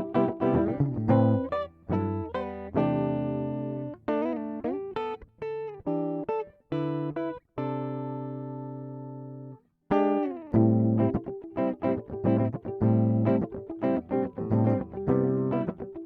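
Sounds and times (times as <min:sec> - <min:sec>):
guitar plucked notes with slides: 0:00.0 - 0:16.0.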